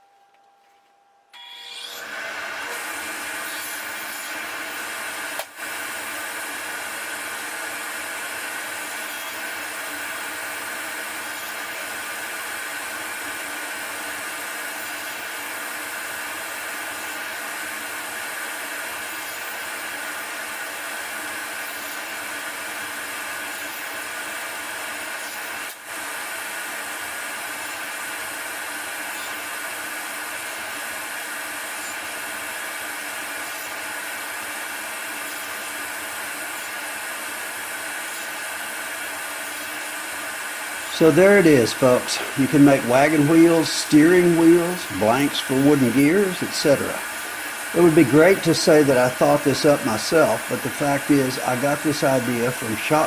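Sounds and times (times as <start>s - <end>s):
table saw blade whine: 0.0s - 53.0s.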